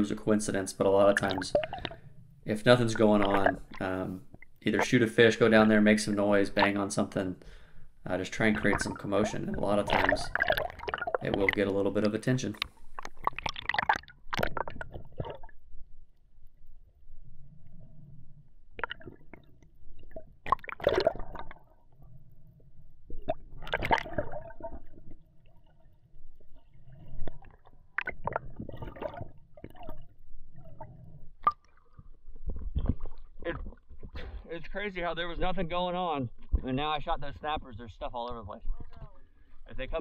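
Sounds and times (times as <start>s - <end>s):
water sloshing and gurgling: 0.0s - 40.0s.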